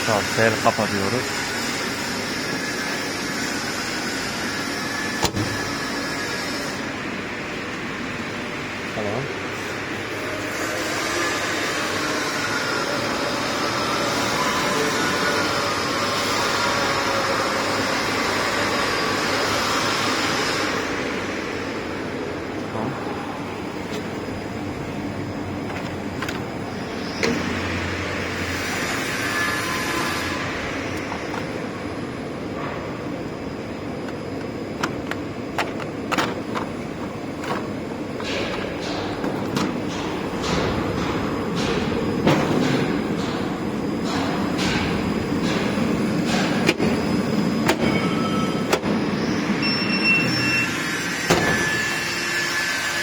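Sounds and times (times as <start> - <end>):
machine fans humming and hissing: 0.0 - 53.0.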